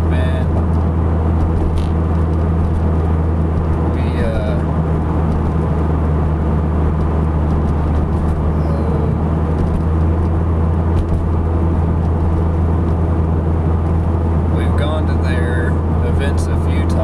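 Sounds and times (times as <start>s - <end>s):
car engine drone: 0.0s - 17.0s
road rumble: 0.0s - 17.0s.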